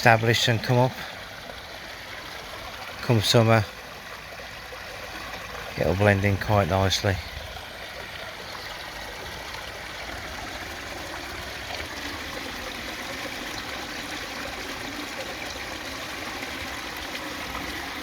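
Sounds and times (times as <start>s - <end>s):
waterfall running into pond: 0.0s - 18.0s.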